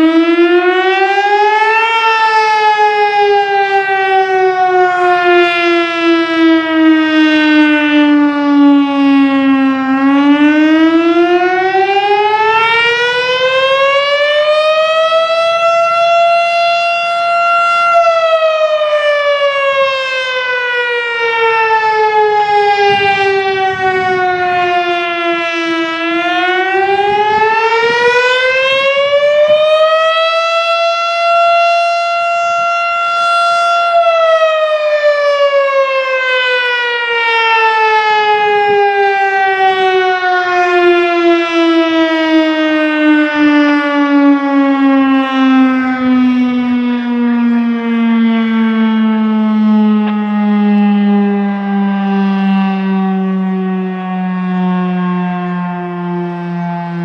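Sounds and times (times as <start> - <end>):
fire siren wailing: 0.0 - 57.0.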